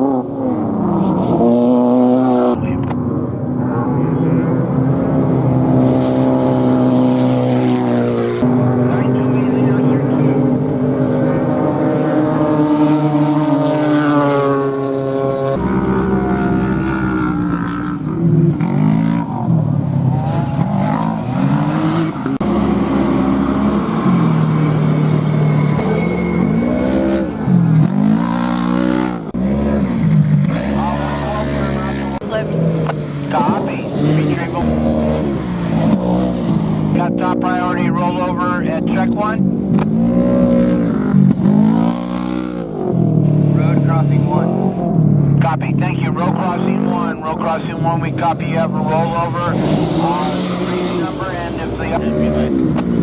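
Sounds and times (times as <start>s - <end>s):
engine running at high revs: 0.0s - 53.0s.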